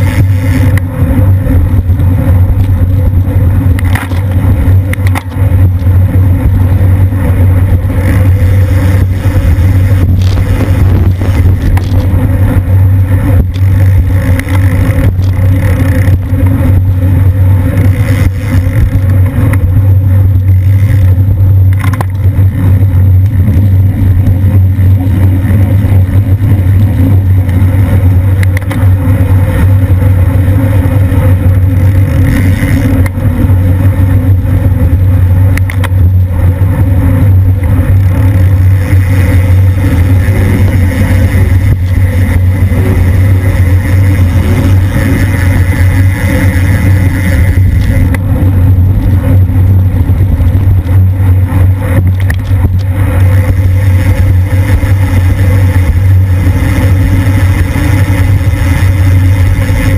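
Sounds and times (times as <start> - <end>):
road rumble: 0.0 - 59.9
wind buffeting: 0.0 - 59.9.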